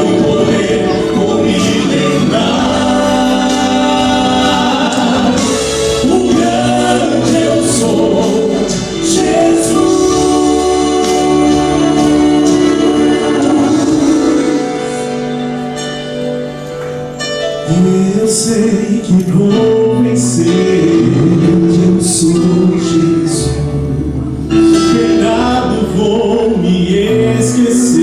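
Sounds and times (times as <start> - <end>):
vocal quartet singing in harmony: 0.0 - 15.9, 17.7 - 28.0.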